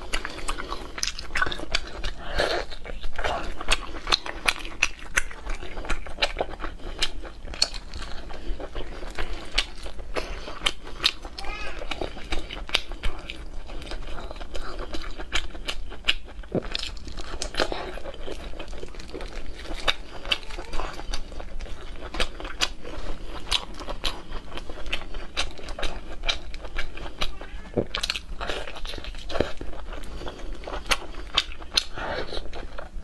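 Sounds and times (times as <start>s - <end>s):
chewing and biting sausage: 0.0s - 33.0s.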